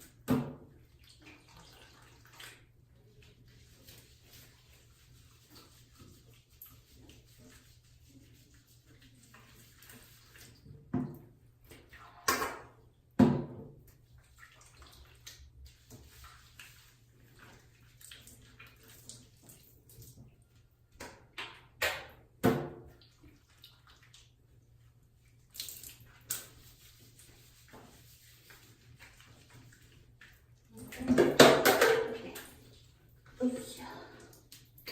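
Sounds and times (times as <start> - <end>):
water splashing in a tub: 0.0 - 34.9.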